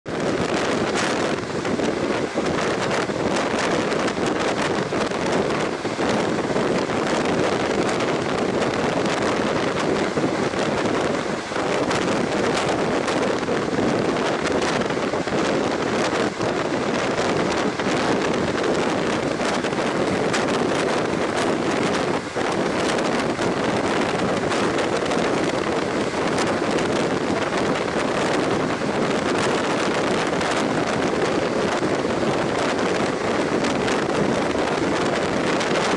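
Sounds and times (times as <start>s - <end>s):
wind on microphone: 0.0s - 35.9s
train rolling at speed: 0.1s - 35.9s.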